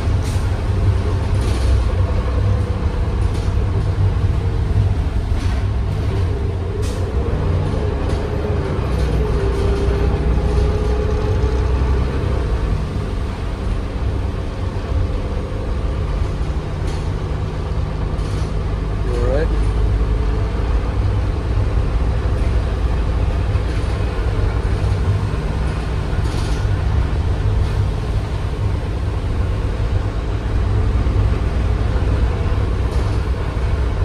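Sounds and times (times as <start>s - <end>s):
bus engine drone: 0.0s - 34.0s
road rumble: 0.0s - 34.0s.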